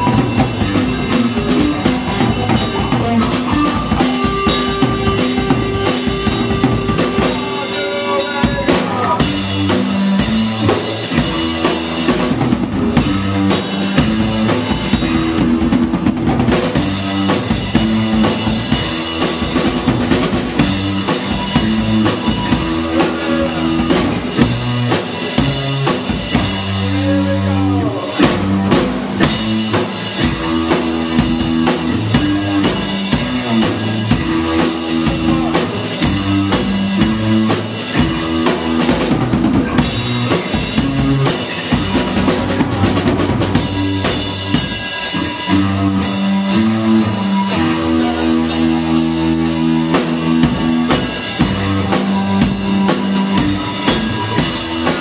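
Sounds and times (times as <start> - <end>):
bass drum: 0.0 - 7.6, 8.2 - 55.0
live rock band playing: 0.0 - 55.0.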